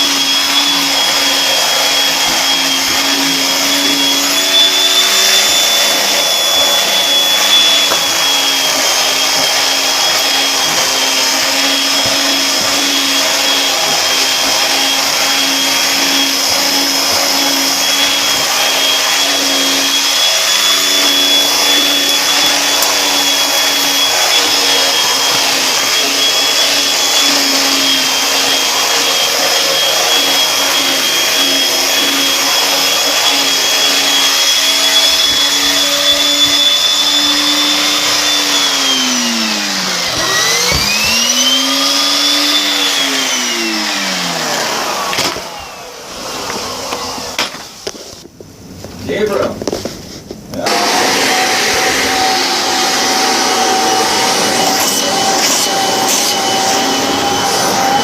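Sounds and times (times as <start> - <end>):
vacuum cleaner whine: 0.0 - 58.0.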